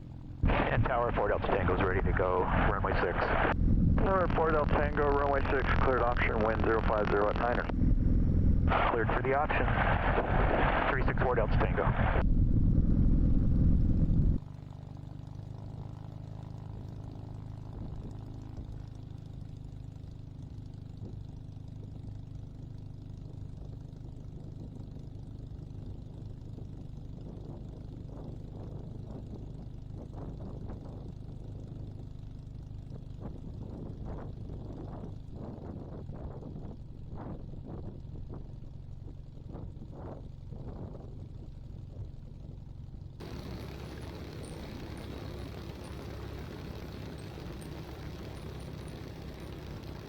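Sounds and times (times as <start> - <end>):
light aircraft engine droning: 0.0 - 50.0.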